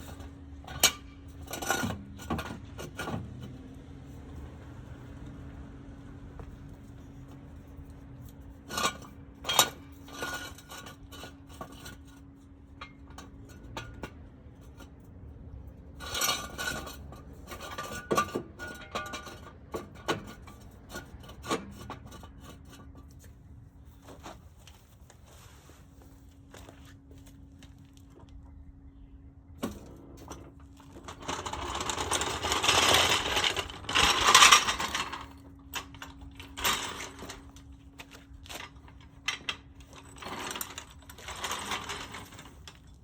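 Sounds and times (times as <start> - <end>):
metal tools clinking and scraping: 0.0 - 5.4, 6.4 - 28.4, 29.6 - 43.0.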